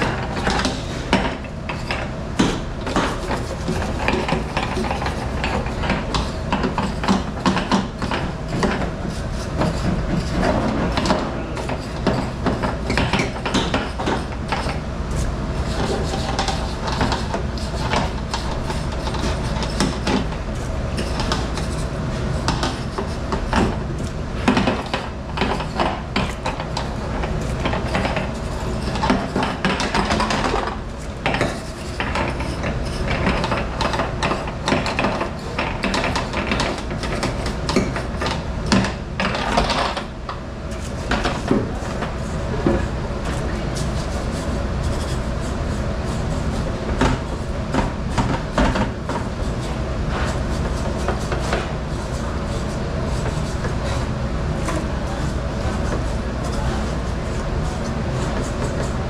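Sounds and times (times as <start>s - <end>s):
steady mechanical rumble: 0.0s - 59.0s.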